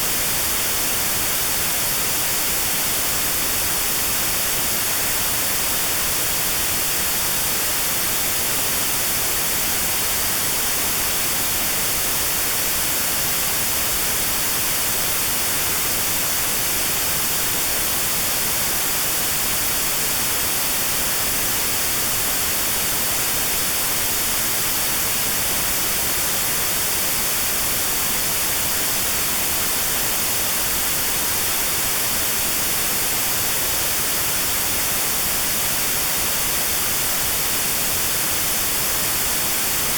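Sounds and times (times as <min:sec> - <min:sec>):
steady notched white noise hiss: 0:00.0 - 0:39.9.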